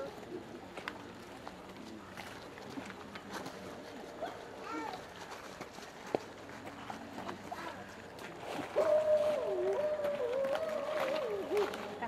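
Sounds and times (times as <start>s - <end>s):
animals moving on the ground: 0.0s - 12.0s.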